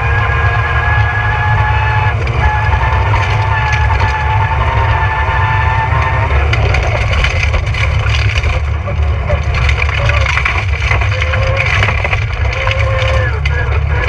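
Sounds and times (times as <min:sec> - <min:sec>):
rally car engine drone: 0:00.0 - 0:14.0
road and mechanical rattle: 0:00.0 - 0:14.0.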